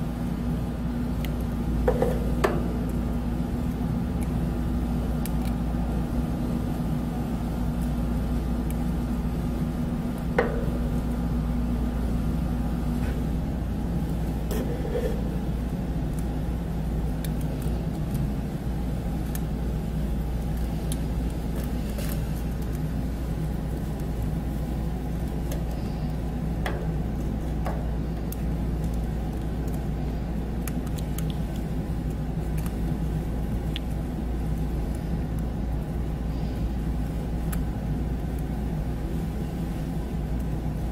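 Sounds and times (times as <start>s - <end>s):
low background rumble: 0.0s - 40.9s.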